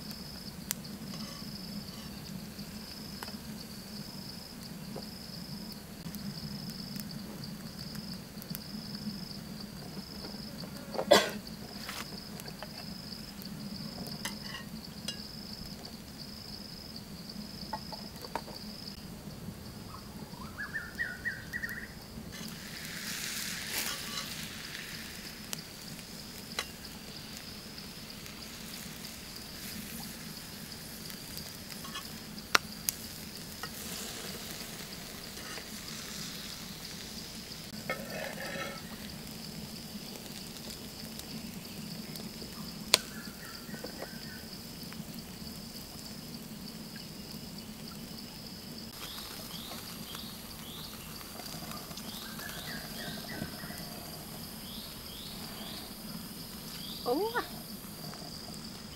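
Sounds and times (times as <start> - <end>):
liver sizzling on hot stone: 0.0 - 19.0, 20.3 - 58.9.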